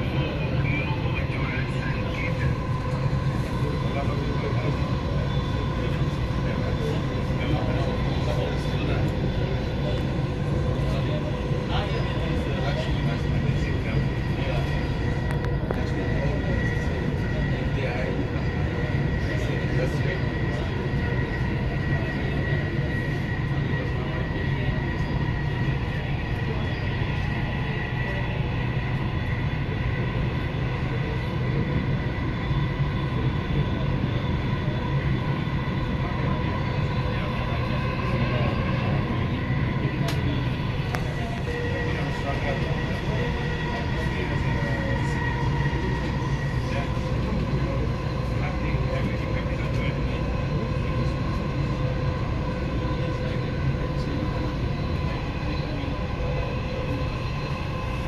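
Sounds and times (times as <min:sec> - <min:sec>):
constant hum: 0:00.0 - 0:58.0
train rumbling at speed: 0:00.0 - 0:58.0.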